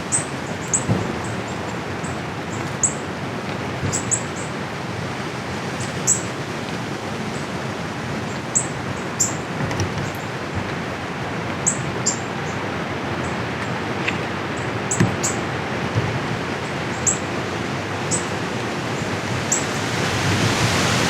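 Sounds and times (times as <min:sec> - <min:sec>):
wind noise: 0:00.0 - 0:21.0.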